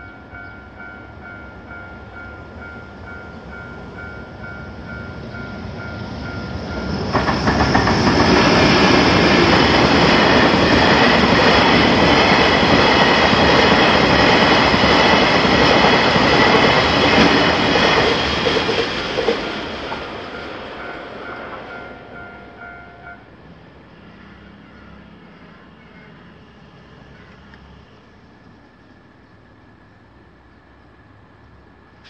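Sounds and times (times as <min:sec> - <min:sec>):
crossing warning bell dinging: 0:00.0 - 0:26.2
train wheels rushing on rails: 0:02.6 - 0:32.0.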